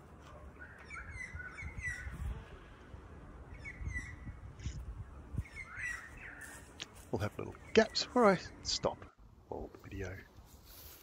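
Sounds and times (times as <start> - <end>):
songbird chirping: 0.0 - 10.5.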